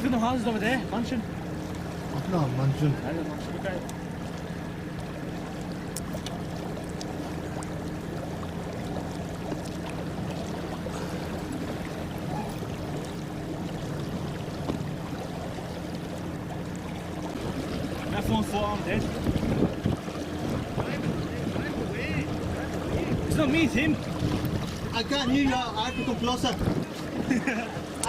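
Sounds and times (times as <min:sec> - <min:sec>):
electric boat motor hum: 0:00.0 - 0:28.0
water rushing along hull: 0:00.0 - 0:28.0.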